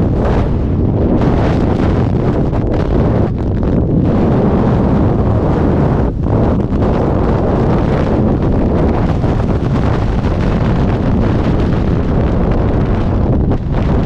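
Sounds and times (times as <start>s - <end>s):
wind roaring over microphone: 0.0s - 14.0s.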